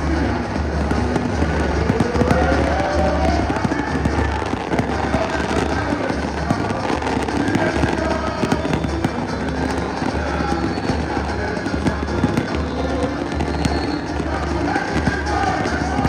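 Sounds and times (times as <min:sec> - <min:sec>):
person singing: 0:00.0 - 0:16.0
samba drums: 0:00.0 - 0:16.0.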